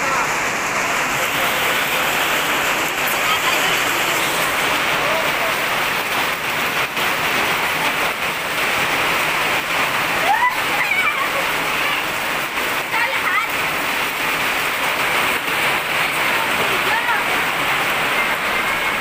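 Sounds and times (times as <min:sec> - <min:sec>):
rain falling and splattering: 0:00.0 - 0:19.0.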